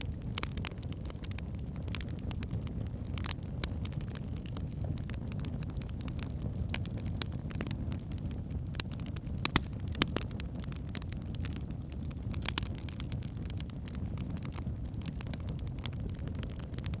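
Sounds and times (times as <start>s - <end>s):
fire crackling and popping: 0.0s - 17.0s
flames rumbling: 0.0s - 17.0s.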